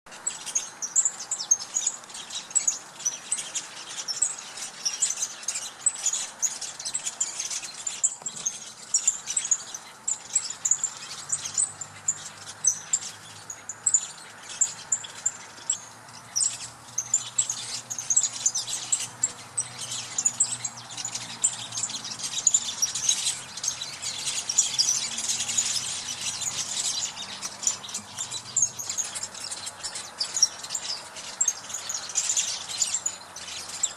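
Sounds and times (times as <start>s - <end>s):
songbirds chirping: 0.1s - 33.9s.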